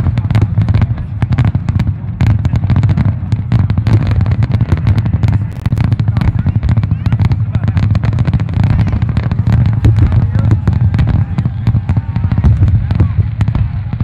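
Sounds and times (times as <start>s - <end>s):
low rumble of booms: 0.8s - 14.0s
firework shells bursting: 1.3s - 14.0s.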